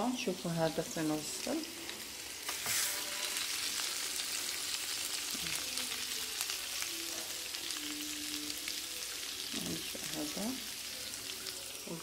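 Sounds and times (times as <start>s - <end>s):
chops sizzling on a grill: 0.0s - 12.0s.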